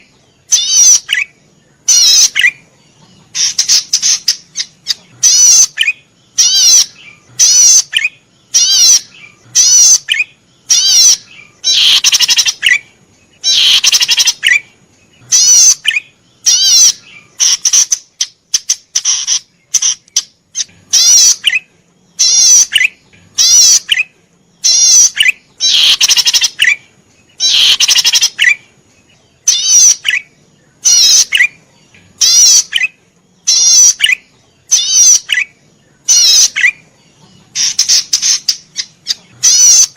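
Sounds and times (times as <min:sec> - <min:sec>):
bird warbling calls: 0:00.0 - 0:39.9.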